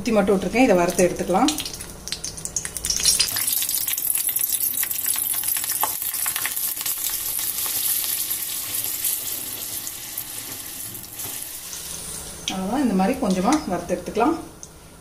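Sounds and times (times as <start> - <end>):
chillies sizzling in hot oil: 0.6 - 13.7.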